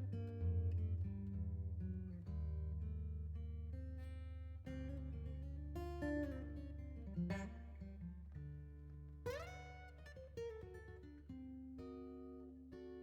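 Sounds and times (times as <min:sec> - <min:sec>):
bass: 0:00.0 - 0:11.3.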